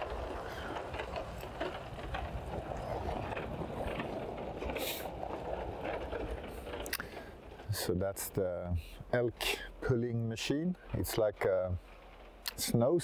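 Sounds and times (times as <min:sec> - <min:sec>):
trailer clicks and rattles: 0:00.0 - 0:13.0
truck engine and tyre rumble: 0:00.0 - 0:13.0.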